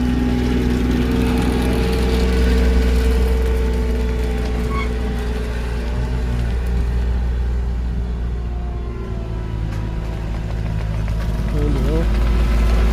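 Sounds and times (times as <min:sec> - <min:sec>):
diesel engine rumbling: 0:00.0 - 0:12.9.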